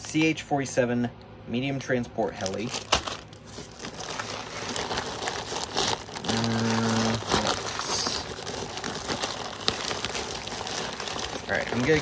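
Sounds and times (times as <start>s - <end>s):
low steady hum: 0.0s - 12.0s
plastic bag crinkling: 2.3s - 12.0s.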